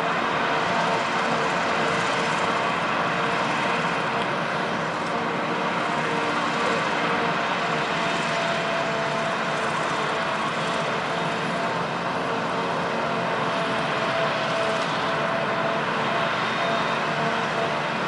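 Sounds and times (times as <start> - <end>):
farm machinery drone: 0.0 - 18.0.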